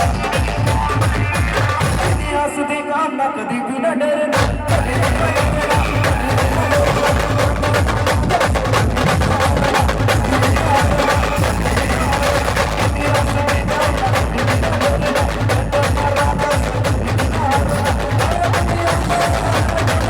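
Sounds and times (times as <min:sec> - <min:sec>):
fast dense drum beat: 0:00.0 - 0:02.5, 0:04.4 - 0:20.0
band playing dance song: 0:00.0 - 0:02.8, 0:04.4 - 0:20.0.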